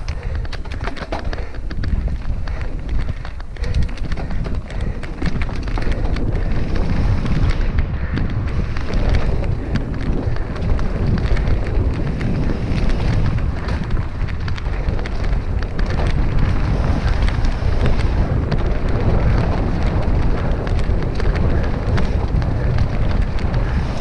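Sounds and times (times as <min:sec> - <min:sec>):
bike clicks and rattles: 0:00.0 - 0:24.0
tyres rumbling over dirt and rock: 0:00.0 - 0:24.0
wind rushing over microphone: 0:00.0 - 0:24.0.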